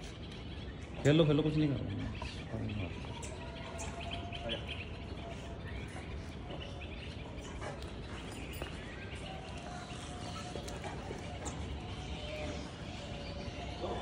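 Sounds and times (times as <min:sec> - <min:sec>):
background hum: 0:00.0 - 0:14.0
small birds chirping: 0:00.0 - 0:14.0.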